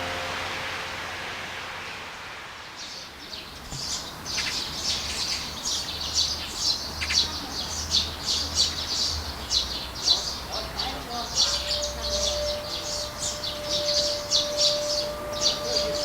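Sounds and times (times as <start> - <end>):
small birds chirping: 2.6 - 16.0.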